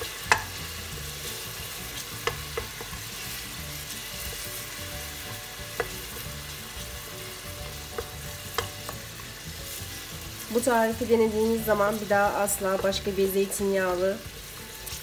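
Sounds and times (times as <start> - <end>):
food sizzling in oil: 0.0 - 15.0
wooden spoon stirring: 0.2 - 13.6.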